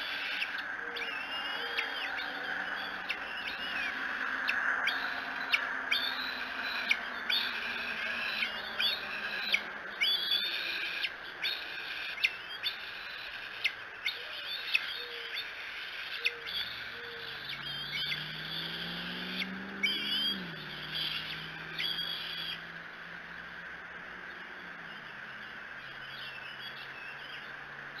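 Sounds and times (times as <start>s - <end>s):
young eagles begging calls: 0.0s - 22.7s.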